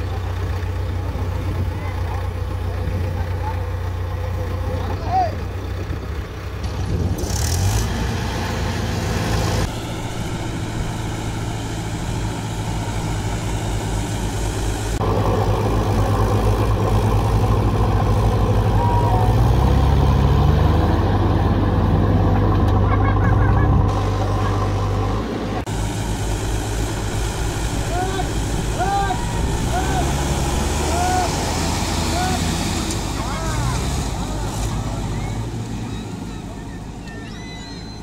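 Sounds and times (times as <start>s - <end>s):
diesel engines under load: 0.0s - 38.0s.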